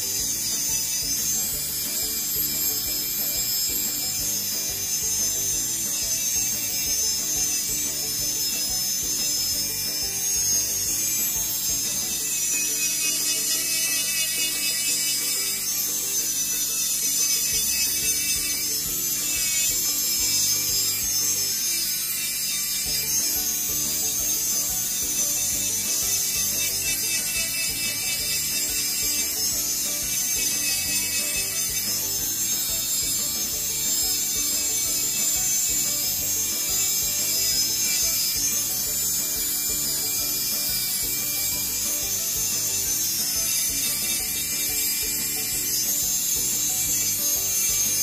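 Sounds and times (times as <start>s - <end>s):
nail drill grinding: 0.0s - 48.0s.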